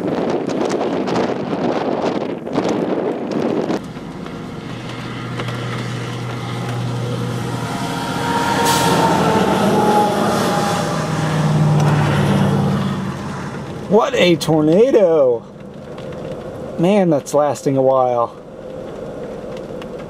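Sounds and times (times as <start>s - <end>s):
wind buffeting microphone: 0.0s - 20.0s
vehicle low hum: 3.1s - 20.0s.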